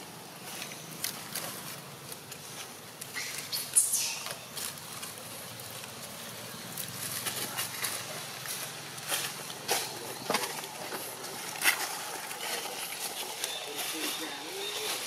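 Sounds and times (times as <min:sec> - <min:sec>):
dry leaves crackling: 0:00.0 - 0:15.0.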